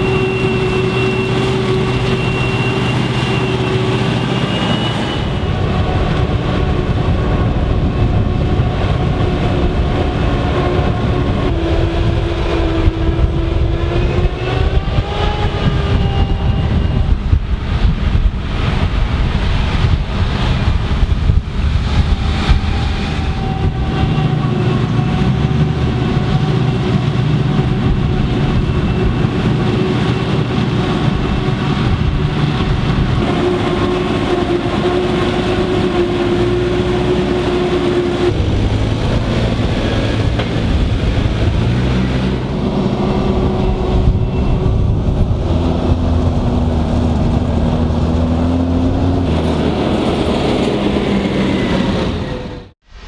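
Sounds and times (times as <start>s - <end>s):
diesel tractor engines droning: 0.0s - 52.8s.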